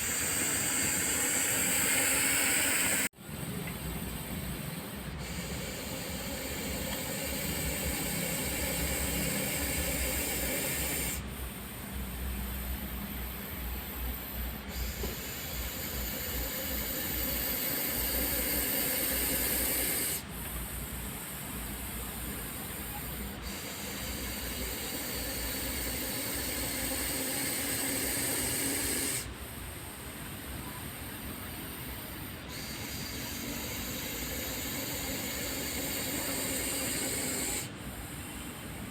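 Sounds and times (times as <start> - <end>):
snake hissing loudly: 0.0 - 3.1, 5.2 - 11.2, 14.2 - 29.3, 30.9 - 38.2.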